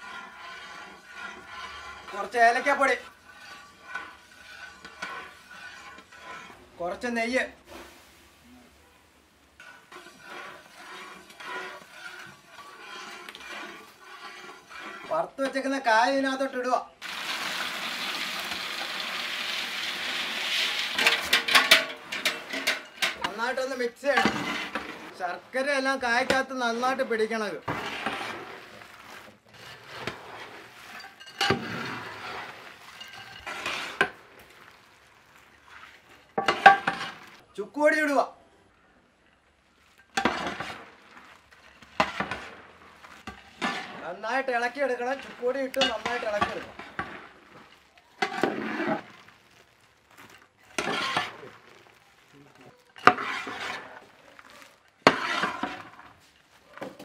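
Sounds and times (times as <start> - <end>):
spatula scraping in pan: 0.0 - 8.4, 9.5 - 37.5, 39.4 - 57.0.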